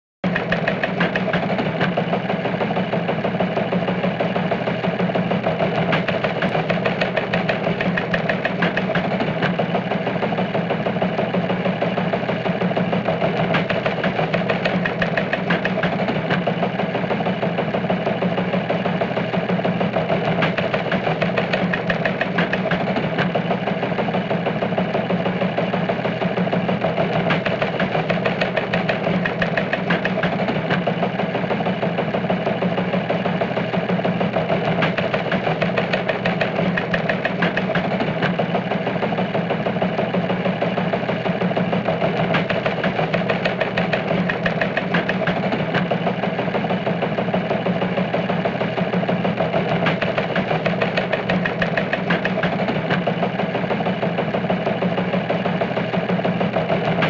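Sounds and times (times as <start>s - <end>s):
engine idling: 0.2s - 57.0s.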